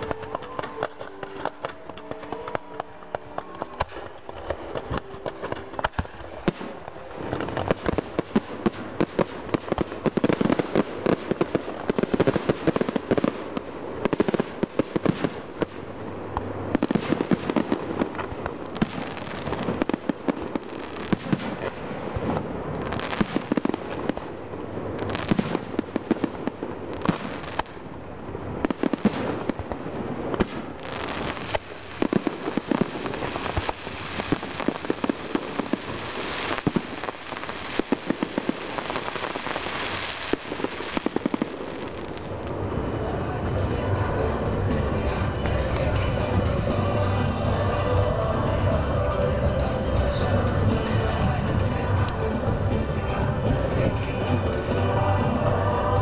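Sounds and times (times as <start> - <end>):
fireworks popping and banging: 0.0 - 56.0.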